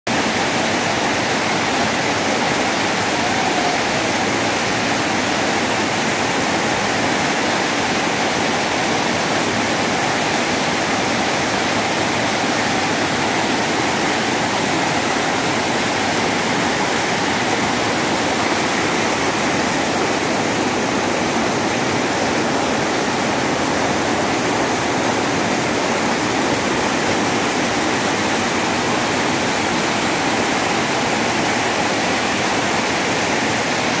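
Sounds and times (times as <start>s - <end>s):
waterfall rushing over rocks: 0.1s - 34.0s.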